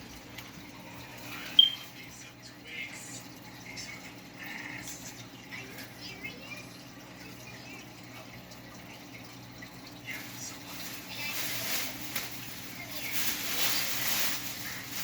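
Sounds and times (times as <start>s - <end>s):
aquarium water trickling: 0.0s - 15.0s.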